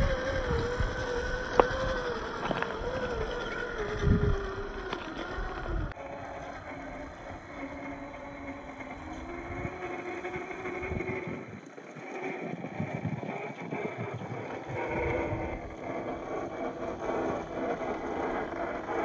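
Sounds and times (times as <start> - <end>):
electric motor and gearbox whine: 0.0 - 19.0
tires crunching on dirt and rocks: 0.0 - 19.0.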